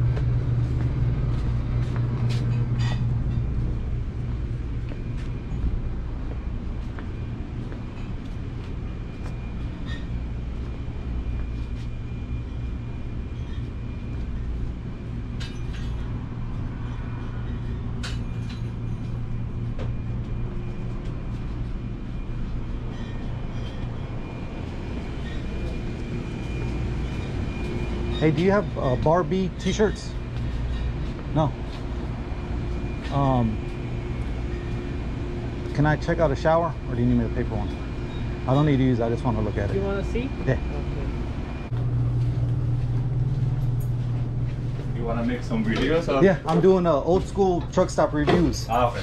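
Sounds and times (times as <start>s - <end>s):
low machine hum: 0.0s - 49.0s.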